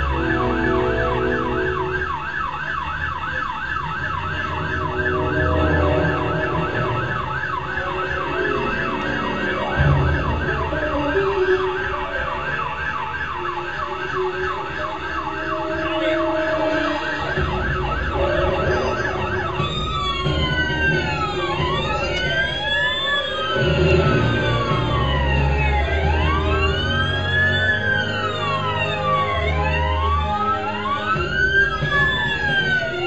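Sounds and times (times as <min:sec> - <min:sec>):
emergency siren wailing: 0:00.0 - 0:33.0.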